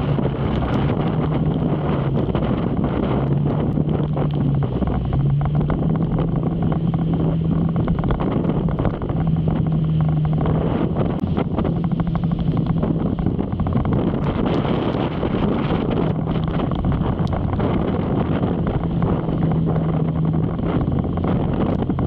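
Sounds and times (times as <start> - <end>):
motorcycle engine cruising: 0.0 - 22.0
wind rushing over microphone: 0.0 - 22.0.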